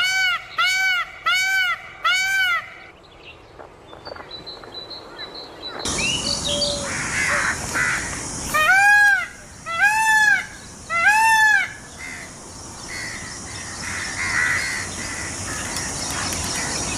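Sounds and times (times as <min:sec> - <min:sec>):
peacock calling: 0:00.0 - 0:03.0, 0:05.8 - 0:16.9.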